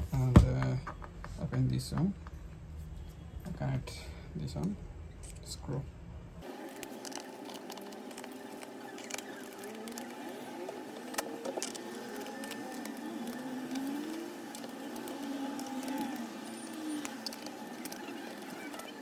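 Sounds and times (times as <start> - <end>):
faint wavering hum: 2.1 - 19.0.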